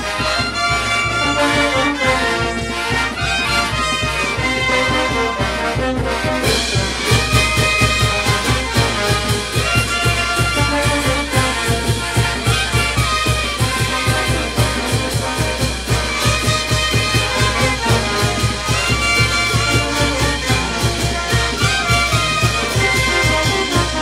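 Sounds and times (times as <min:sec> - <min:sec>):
brass band playing: 0:00.0 - 0:24.0
drum beat: 0:00.0 - 0:24.0.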